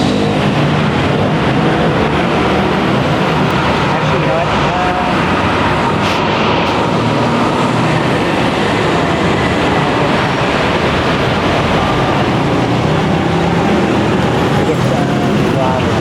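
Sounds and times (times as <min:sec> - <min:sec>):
busy street traffic: 0:00.0 - 0:16.0.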